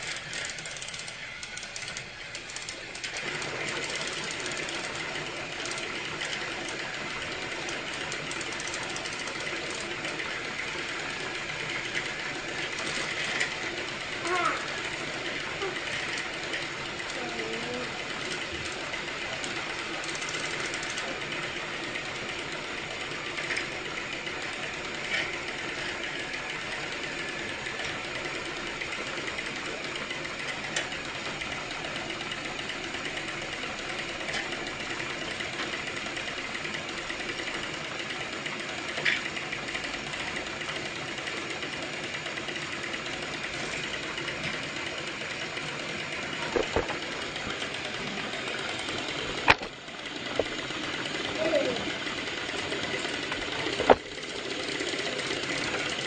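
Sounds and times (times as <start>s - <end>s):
toy train motor whirring: 0.0s - 56.0s.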